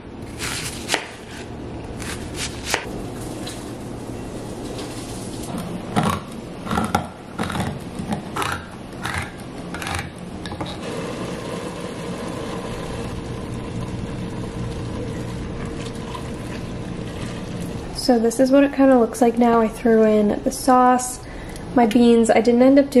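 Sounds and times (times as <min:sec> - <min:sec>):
steady hum with faint tone: 0:00.0 - 0:23.0.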